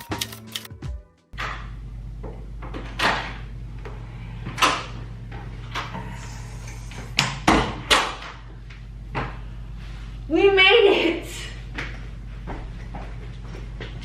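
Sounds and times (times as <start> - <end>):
steady low hum: 1.4 - 14.0.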